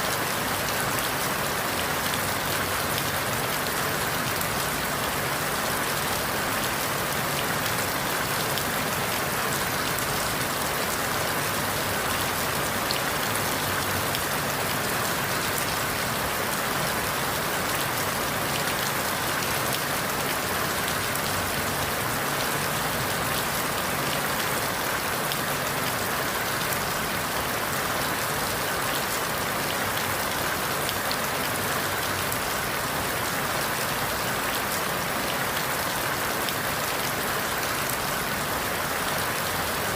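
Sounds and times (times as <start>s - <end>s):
rain falling through leaves: 0.0s - 39.9s.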